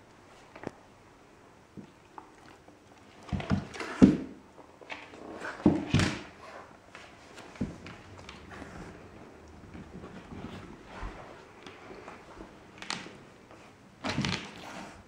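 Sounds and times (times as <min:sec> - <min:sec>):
animals scuffling on wooden floor: 0:01.8 - 0:15.0.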